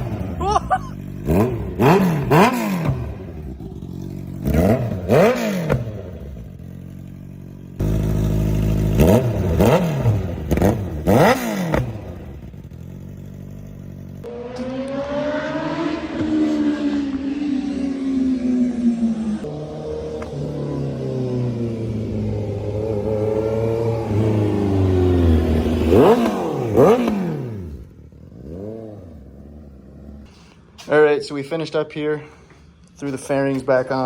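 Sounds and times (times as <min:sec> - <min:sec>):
motorcycle engine idling: 0:00.0 - 0:15.2, 0:18.4 - 0:34.0
motorcycle engine revving: 0:00.0 - 0:31.8.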